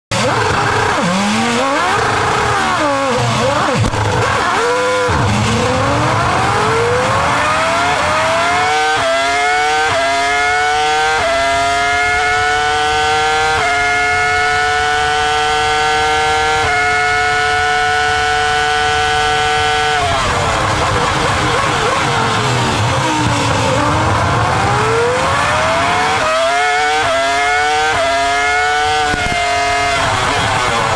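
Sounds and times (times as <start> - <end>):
racing engine revving high: 0.1 - 30.9.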